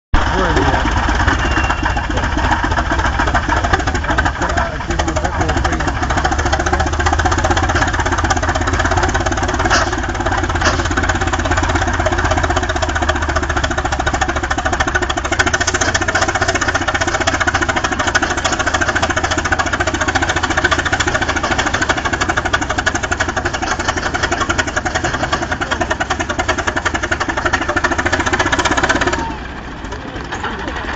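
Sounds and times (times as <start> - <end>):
tractor engine running: 0.1 - 30.9.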